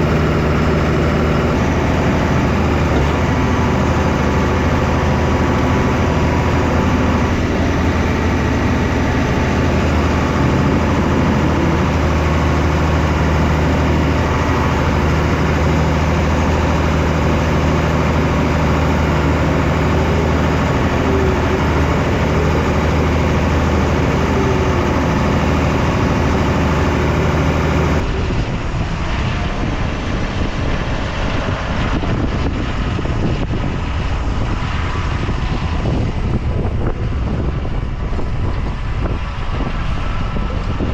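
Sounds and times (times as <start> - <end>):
tractor engine running: 0.0 - 40.9
wind on microphone: 0.0 - 40.9.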